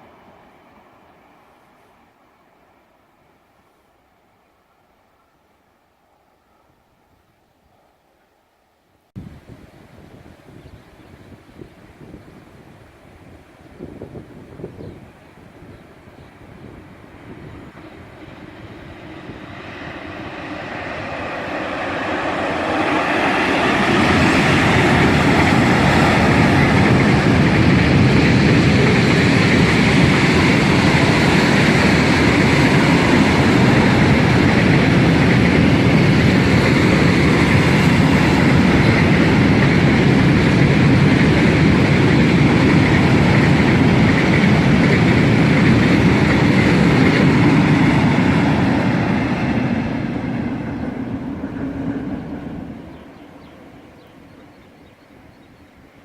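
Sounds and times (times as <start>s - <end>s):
freight train rolling past: 0.0s - 5.3s, 9.1s - 56.0s.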